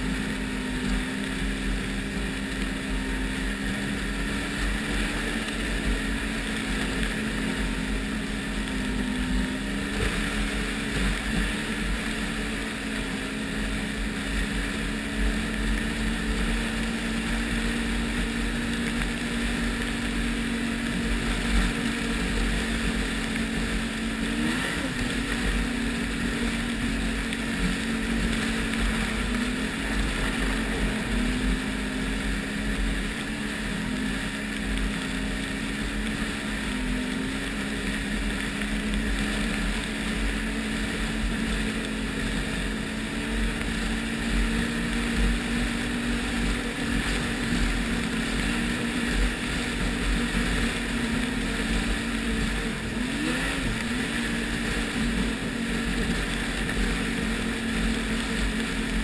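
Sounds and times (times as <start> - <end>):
snowmobile engine cruising: 0.0 - 59.0.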